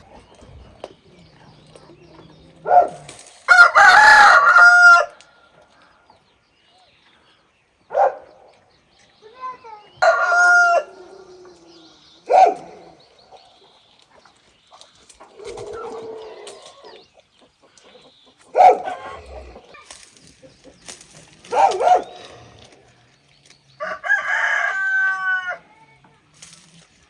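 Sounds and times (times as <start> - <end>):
farmyard birds calling: 0.0 - 27.0.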